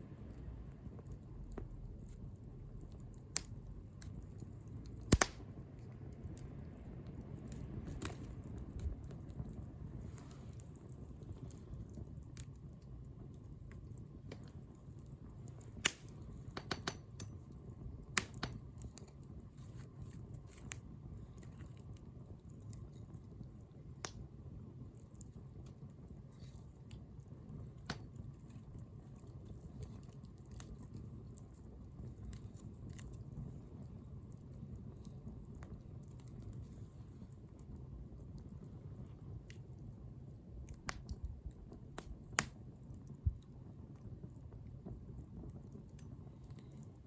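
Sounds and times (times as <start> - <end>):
low steady rumble: 0.0 - 47.0
wood bonfire crackling: 0.0 - 47.0.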